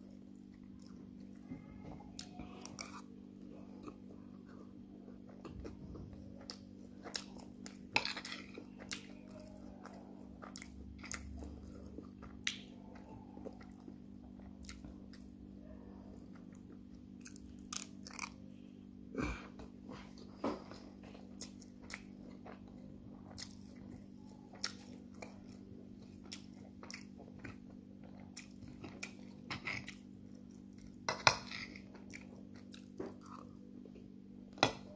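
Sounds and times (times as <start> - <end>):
steady low hum: 0.0 - 34.9
person chewing and lip smacking: 2.1 - 15.4, 16.2 - 18.5, 21.0 - 33.6.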